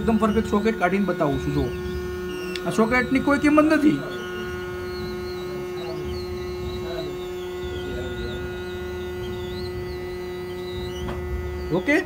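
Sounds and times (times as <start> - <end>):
faint wavering high whine: 0.0 - 12.0
hot air gun humming: 0.0 - 12.0.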